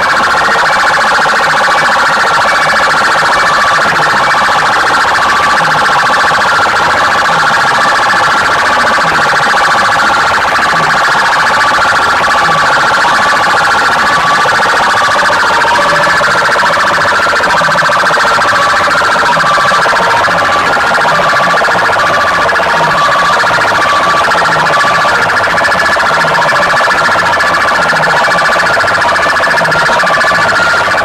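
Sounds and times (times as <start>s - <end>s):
distorted siren-like wailing: 0.0s - 31.0s.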